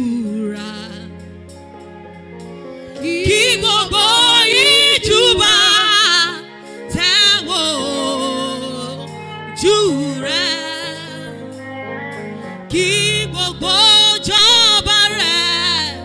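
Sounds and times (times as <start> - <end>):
woman singing worship song: 0.0 - 1.7, 2.8 - 16.0
sustained accompaniment chords: 0.0 - 16.0.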